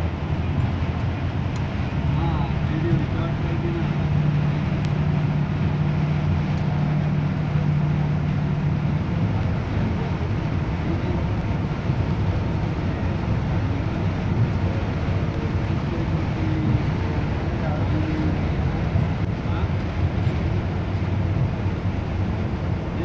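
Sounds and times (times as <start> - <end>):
bus engine drone: 0.0 - 23.0
rain hissing: 0.0 - 23.0
wet road noise: 0.0 - 23.0.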